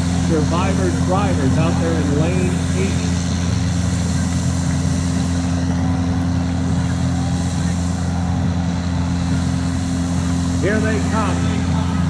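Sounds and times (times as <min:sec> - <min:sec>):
low engine drone: 0:00.0 - 0:12.0
faint distant voices: 0:00.3 - 0:12.0.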